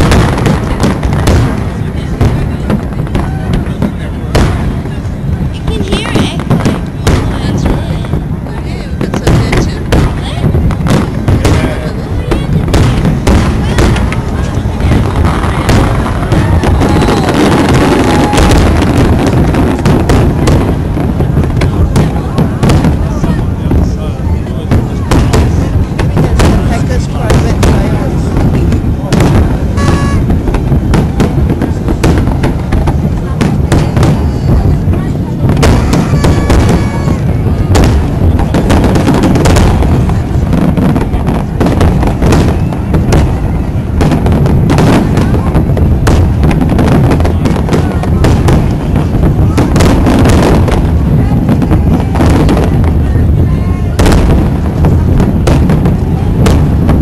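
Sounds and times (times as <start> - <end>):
fireworks rumbling: 0.0 - 57.0
sharp firework cracks: 0.0 - 57.0
wind buffeting microphone: 0.0 - 57.0.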